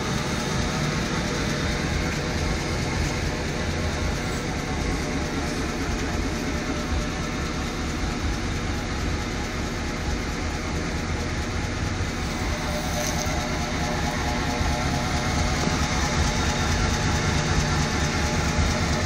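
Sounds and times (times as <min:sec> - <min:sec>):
pickup truck engine idling: 0:00.0 - 0:19.0.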